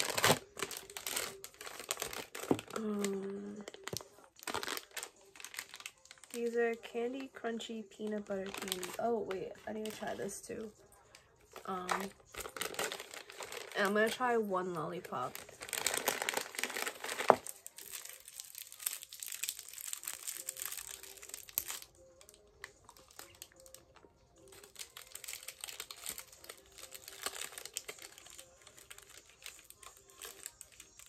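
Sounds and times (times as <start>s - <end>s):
candy wrapper crinkling: 0.0s - 31.0s.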